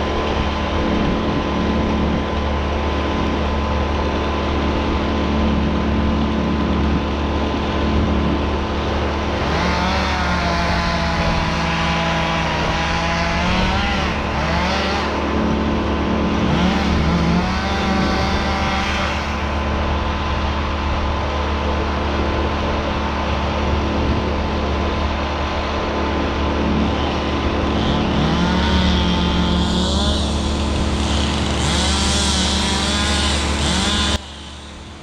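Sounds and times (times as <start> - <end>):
engine revving: 0.0 - 35.0.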